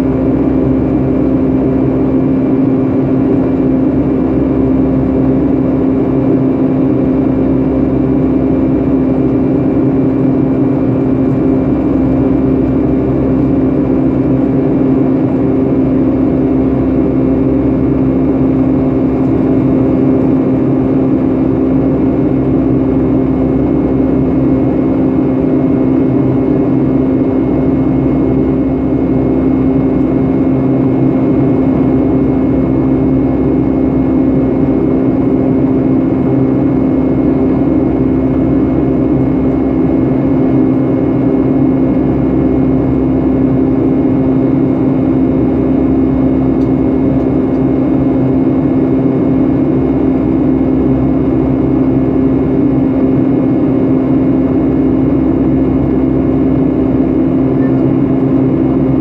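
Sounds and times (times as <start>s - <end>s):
jet engine cabin drone: 0.0s - 59.0s
low hum: 0.0s - 59.0s.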